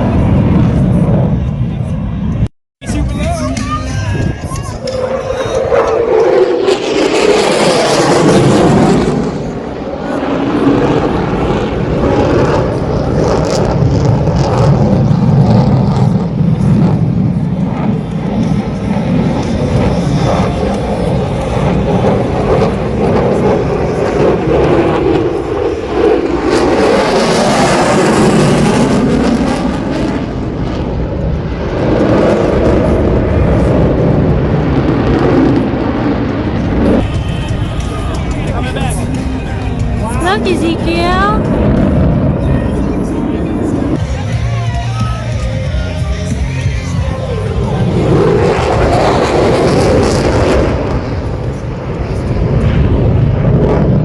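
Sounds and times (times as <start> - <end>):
military aircraft flying past: 0.0 - 54.0.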